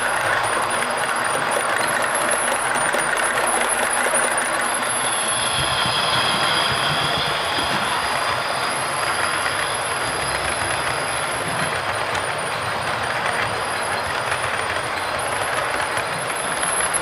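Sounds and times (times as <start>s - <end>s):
model train wheels rattling on rails: 0.0s - 17.0s.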